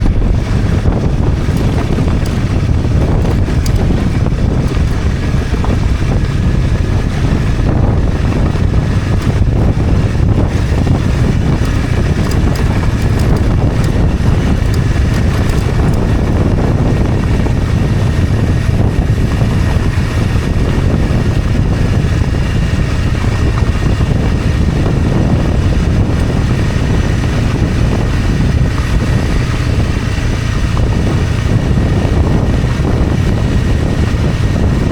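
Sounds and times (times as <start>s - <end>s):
motorcycle engine running: 0.0s - 34.9s
wind rumbling on microphone: 0.0s - 34.9s.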